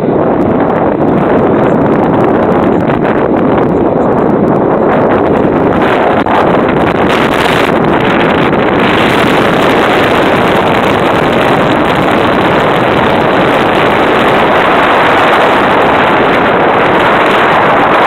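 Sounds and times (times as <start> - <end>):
boat engine and wind rushing: 0.0 - 18.0.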